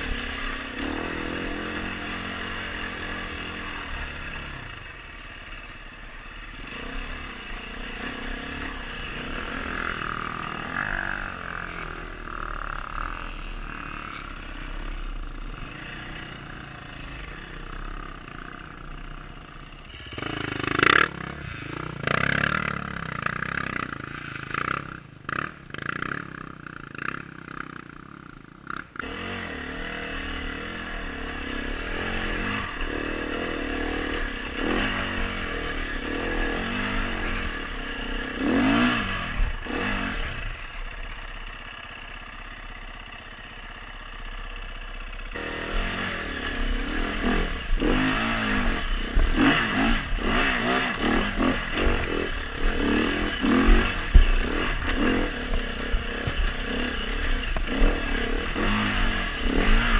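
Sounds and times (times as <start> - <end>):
dirt bike engine revving: 0.0 - 42.4, 45.0 - 59.9.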